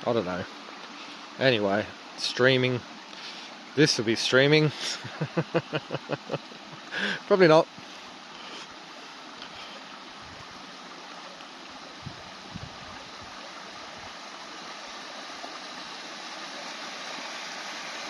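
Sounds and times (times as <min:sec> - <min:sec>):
stream running over stones: 0:00.0 - 0:18.0.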